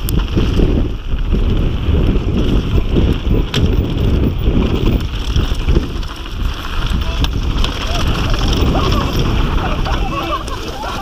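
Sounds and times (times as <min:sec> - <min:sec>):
bike tyres rumbling on dirt trail: 0:00.0 - 0:11.0
wind buffeting microphone: 0:00.0 - 0:11.0.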